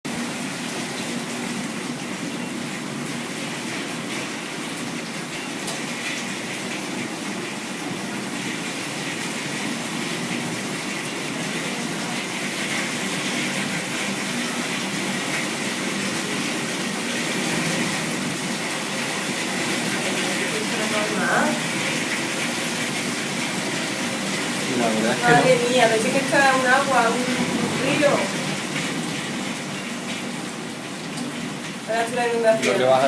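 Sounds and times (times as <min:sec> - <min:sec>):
torrential rain: 0:00.1 - 0:33.0
floodwater rushing: 0:06.2 - 0:33.0.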